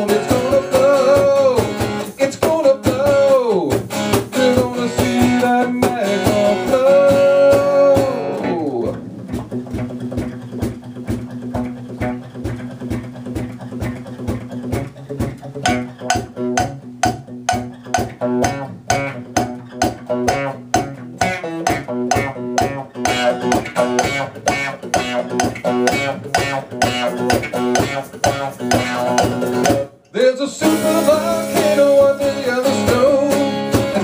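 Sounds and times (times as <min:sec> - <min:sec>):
live band playing: 0:00.0 - 0:30.0, 0:30.6 - 0:34.0.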